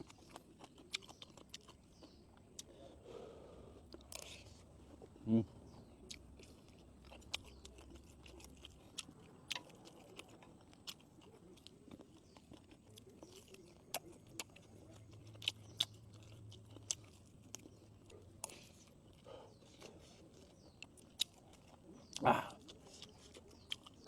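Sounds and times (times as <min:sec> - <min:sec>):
crunches of biting: 0:00.0 - 0:02.8, 0:06.0 - 0:24.0
person chewing food: 0:00.0 - 0:24.0.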